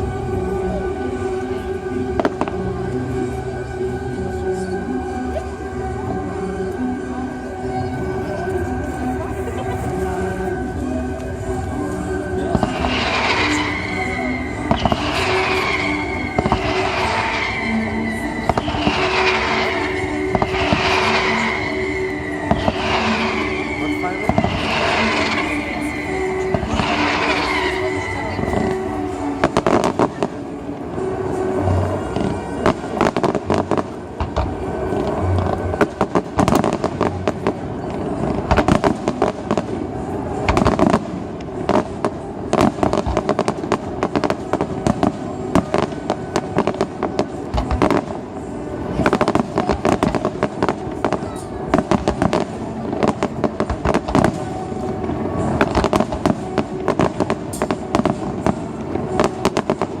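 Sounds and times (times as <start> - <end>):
music playing: 0.0 - 60.0
fireworks bursting: 8.1 - 60.0.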